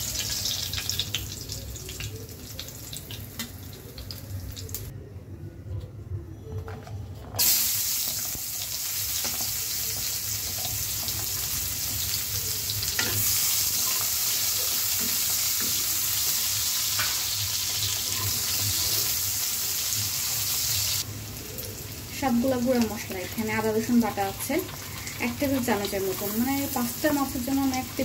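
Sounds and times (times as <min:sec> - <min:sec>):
onions sizzling in hot oil: 0:00.0 - 0:04.9, 0:07.4 - 0:28.0.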